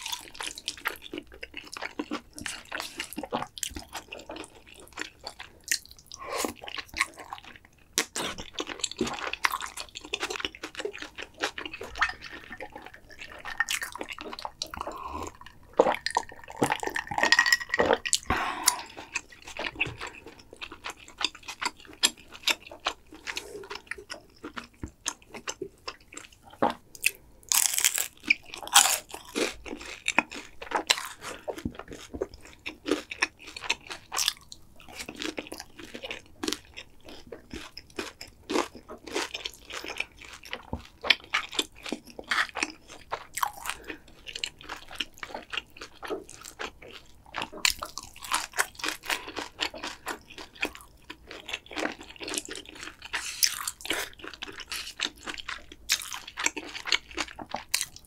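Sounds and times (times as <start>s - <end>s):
crunchy chewing: 0.0s - 58.0s.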